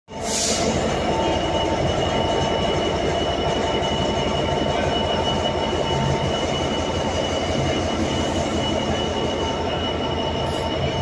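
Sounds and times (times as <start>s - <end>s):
diesel locomotive engine running: 0.1s - 11.0s
thin steady whine: 0.8s - 11.0s.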